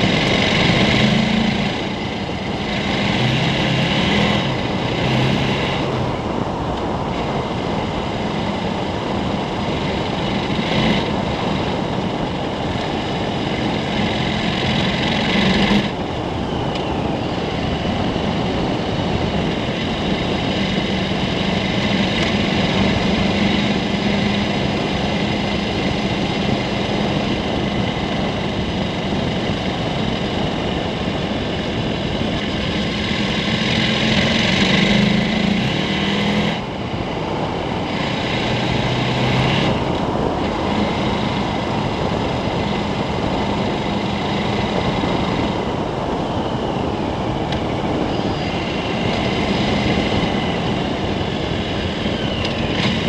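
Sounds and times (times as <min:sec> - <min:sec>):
motorcycle engine running: 0:00.0 - 0:53.0
wind rush: 0:00.0 - 0:53.0.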